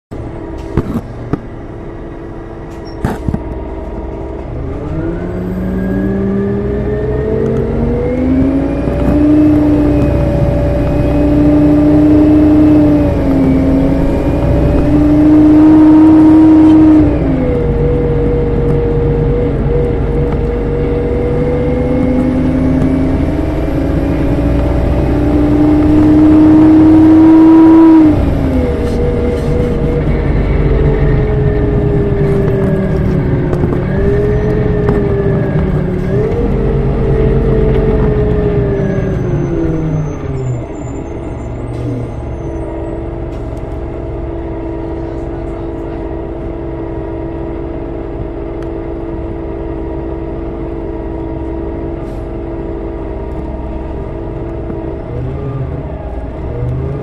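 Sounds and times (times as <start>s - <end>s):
bus engine revving: 0.1s - 57.0s.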